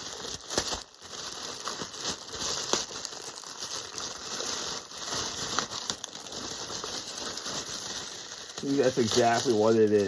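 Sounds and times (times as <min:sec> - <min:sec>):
package wrapping crinkling: 0:00.0 - 0:10.0.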